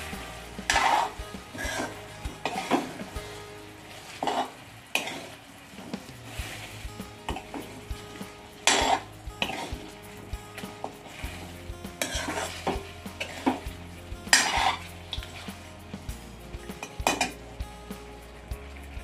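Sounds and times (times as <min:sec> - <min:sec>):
metal ladle scraping metal pan: 0:00.0 - 0:16.0
frying sizzle: 0:00.0 - 0:19.0.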